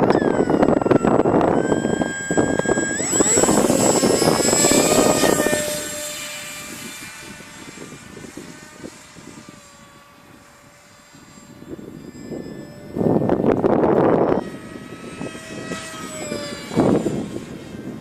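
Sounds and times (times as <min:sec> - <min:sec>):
wind noise rush: 0:00.0 - 0:10.5, 0:11.1 - 0:18.0
electric motor propeller whining: 0:00.0 - 0:18.0.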